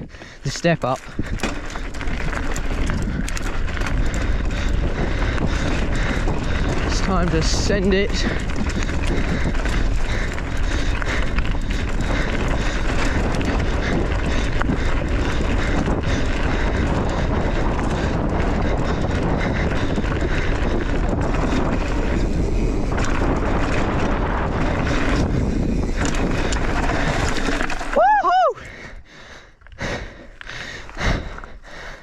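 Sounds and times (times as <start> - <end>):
wind rushing over microphone: 0.0 - 29.2
bike tyres rumbling on dirt: 0.0 - 32.0.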